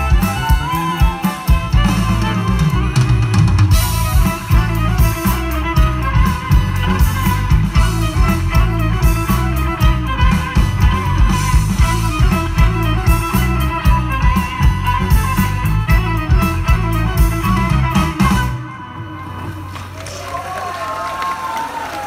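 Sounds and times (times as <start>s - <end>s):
steady drum beat: 0.0s - 18.6s
fiddle: 0.0s - 19.8s
electric guitars: 0.0s - 20.3s
bass: 0.0s - 20.6s.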